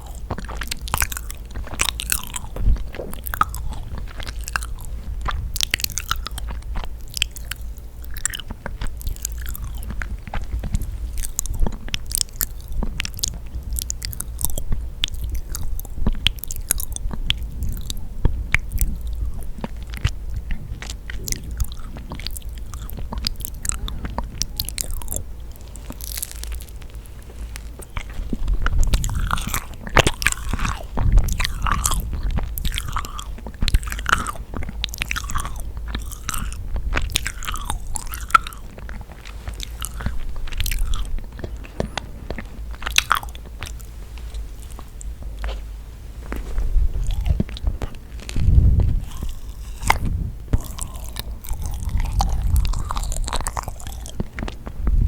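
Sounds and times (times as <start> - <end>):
sticky chewing mouth sounds: 0.0 - 55.0.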